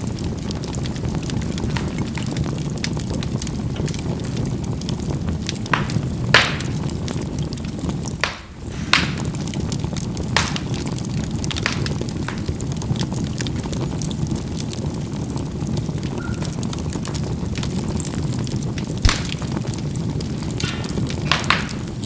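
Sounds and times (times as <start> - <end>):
charcoal crackling: 0.0 - 22.0
charcoal popping: 0.0 - 22.0
low rumble of flames: 0.0 - 22.0.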